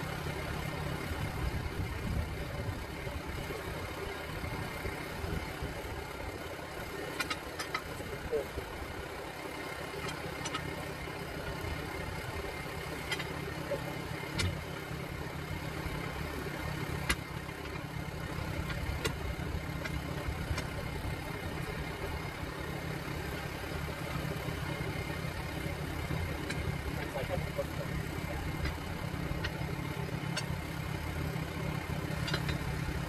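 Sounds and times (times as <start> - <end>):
engine idling: 0.0 - 33.0
metallic clicks of tire irons: 4.4 - 8.9, 9.9 - 33.0.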